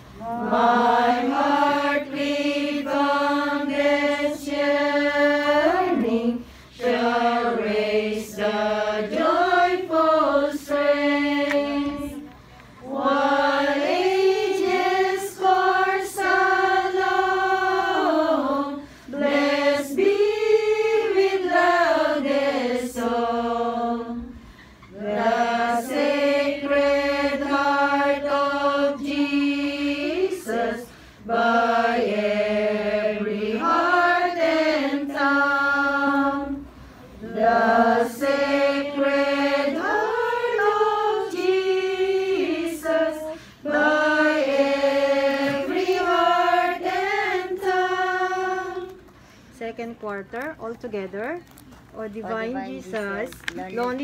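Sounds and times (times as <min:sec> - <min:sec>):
women singing a hymn: 0:00.0 - 0:49.8.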